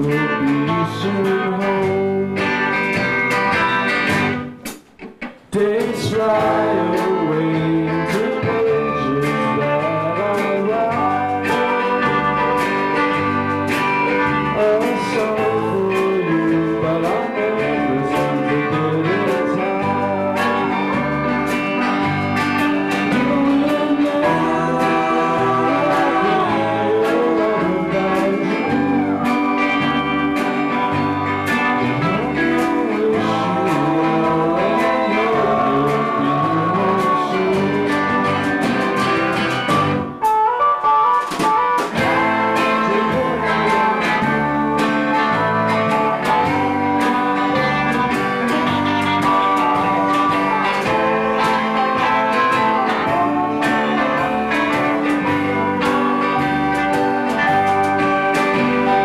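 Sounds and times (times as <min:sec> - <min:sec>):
live band playing country blues: 0:00.0 - 0:59.0.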